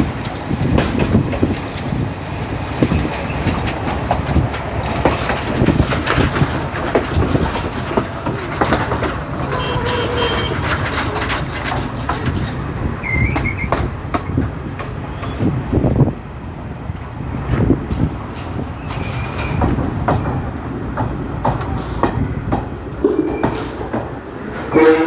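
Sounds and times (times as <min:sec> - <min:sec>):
train rumbling on rails: 0:00.0 - 0:25.0
wheels clattering over rail joints: 0:00.0 - 0:25.0.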